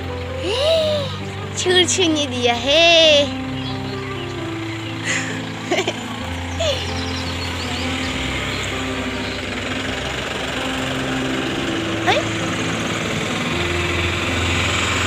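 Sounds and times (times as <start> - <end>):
engine running low: 0.0 - 15.0
high chirp: 2.4 - 15.0.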